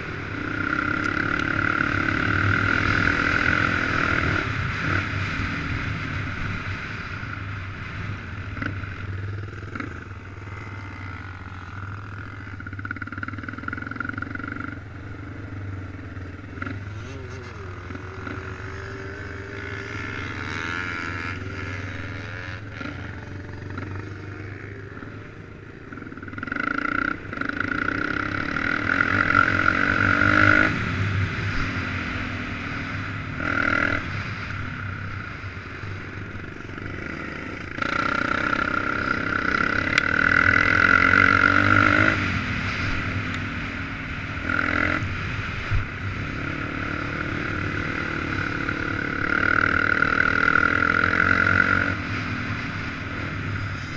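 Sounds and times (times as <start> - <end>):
off-road engine revving: 0.0 - 35.1, 35.8 - 53.9.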